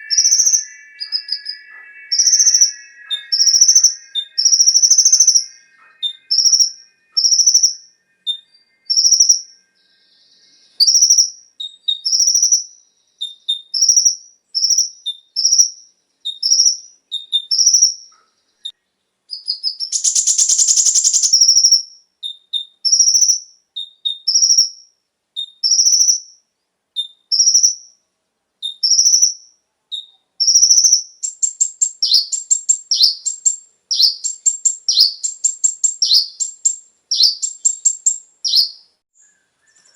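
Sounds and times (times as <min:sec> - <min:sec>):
buzzy bird trill: 0:00.0 - 0:18.2, 0:19.3 - 0:26.4, 0:27.0 - 0:28.0, 0:28.6 - 0:39.9
sunbird chirps: 0:00.0 - 0:28.0, 0:28.6 - 0:39.9.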